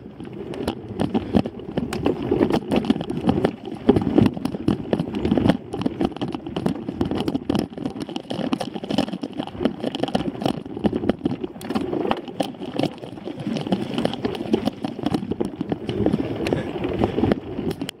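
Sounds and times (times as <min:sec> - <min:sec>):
bike rattling on dirt trail: 0:00.0 - 0:18.0.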